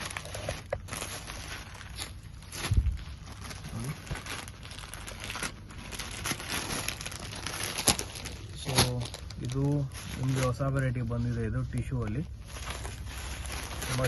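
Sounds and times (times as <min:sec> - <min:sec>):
fabric crinkling and rustling: 0:00.0 - 0:14.0.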